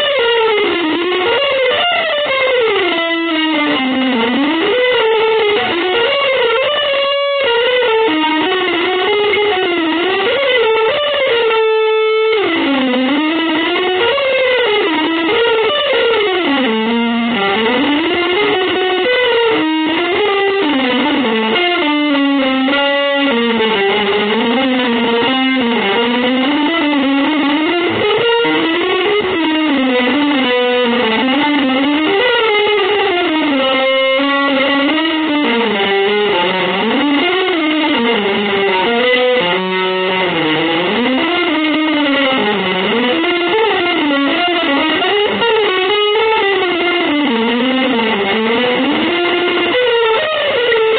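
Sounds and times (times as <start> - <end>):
electric guitar melody: 0.0 - 50.9.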